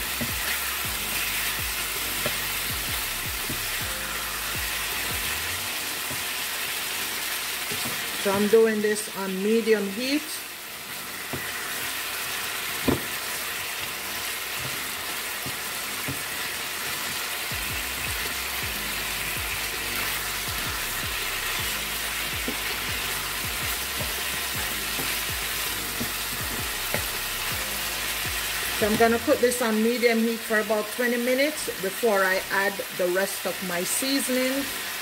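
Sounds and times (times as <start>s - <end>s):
chicken sizzling in hot oil: 0.0s - 35.0s.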